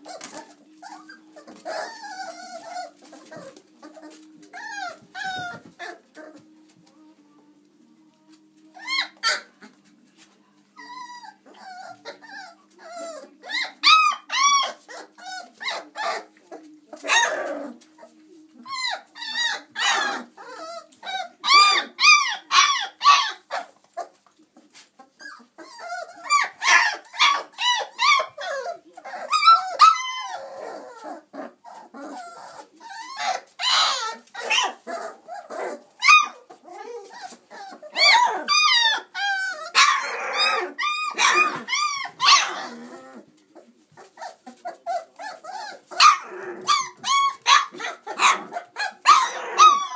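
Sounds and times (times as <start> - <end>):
puppies yipping and whining: 0.0 - 6.9, 8.6 - 10.0, 10.7 - 49.9.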